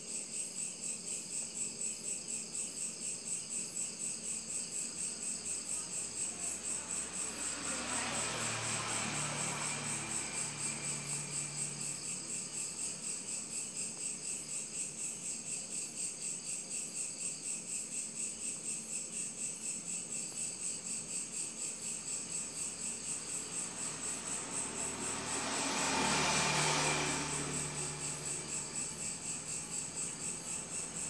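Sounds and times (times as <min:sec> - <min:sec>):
insect chirping: 0:00.0 - 0:31.0.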